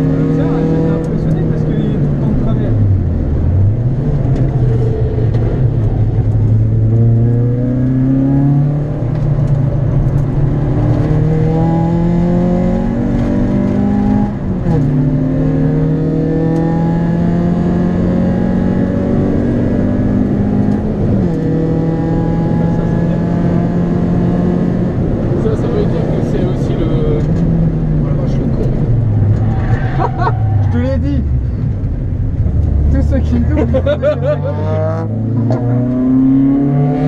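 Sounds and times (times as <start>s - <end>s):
car engine revving under load: 0.0s - 37.0s.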